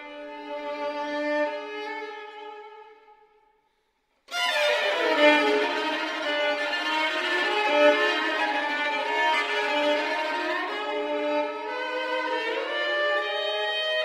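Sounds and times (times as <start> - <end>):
two violins playing: 0.0 - 3.1, 4.3 - 14.0.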